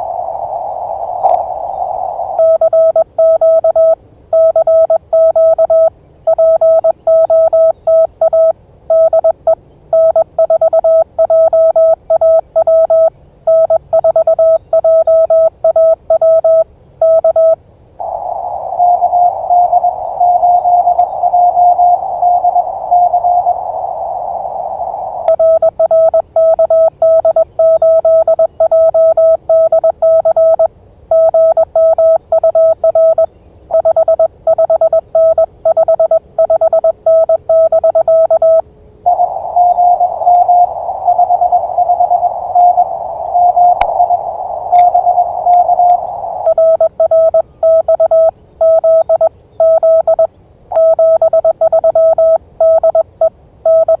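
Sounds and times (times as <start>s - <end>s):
higher morse tone from receiver: 0.0s - 54.0s
receiver hiss: 0.0s - 54.0s
morse code keyed tone: 2.4s - 18.2s, 18.8s - 23.6s, 25.2s - 54.0s.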